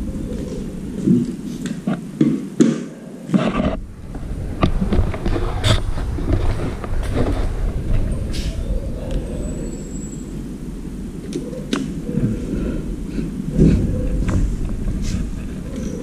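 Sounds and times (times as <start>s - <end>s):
steady low rumble: 0.0s - 2.2s, 3.5s - 16.0s.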